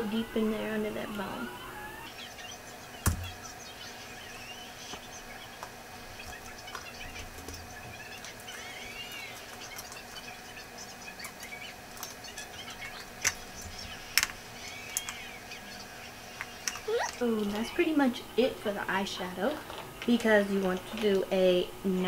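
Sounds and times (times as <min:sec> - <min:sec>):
birds chirping faintly: 0:00.0 - 0:22.0.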